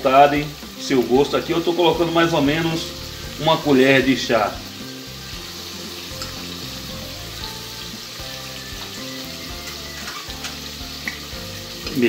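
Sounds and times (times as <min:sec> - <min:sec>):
leeks sizzling in oil: 0:00.0 - 0:12.0
soft background music: 0:00.0 - 0:12.0.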